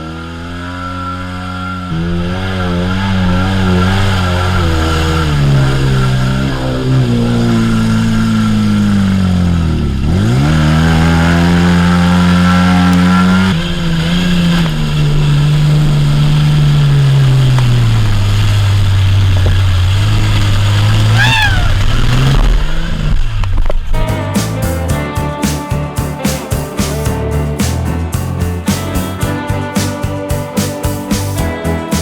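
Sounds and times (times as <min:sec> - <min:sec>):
off-road vehicle engine under load: 0:00.0 - 0:32.0.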